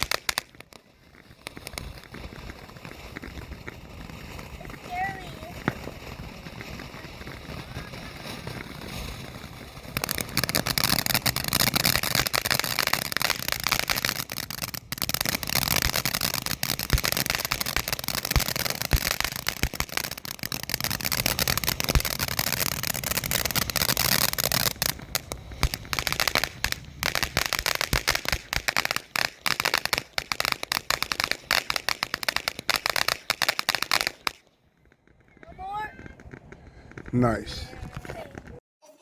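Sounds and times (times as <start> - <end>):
fountain firework crackling: 0.0 - 38.6.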